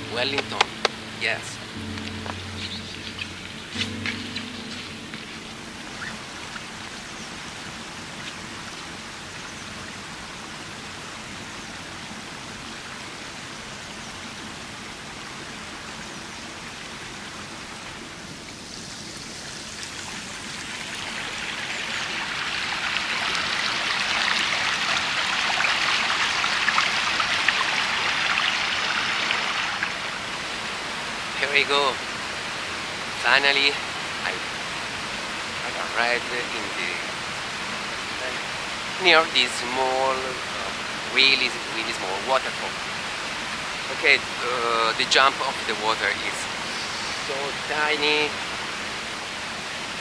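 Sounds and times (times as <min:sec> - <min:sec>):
stream flowing water: 0:00.0 - 0:50.0.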